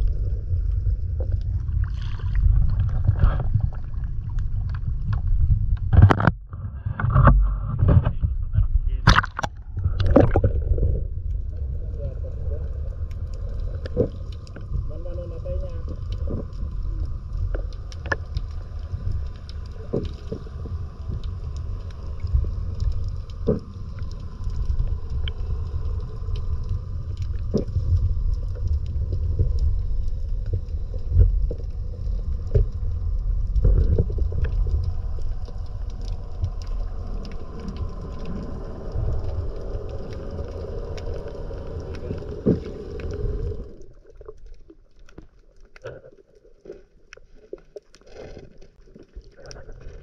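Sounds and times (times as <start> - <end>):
low rumbling noise: 0.0 - 44.8.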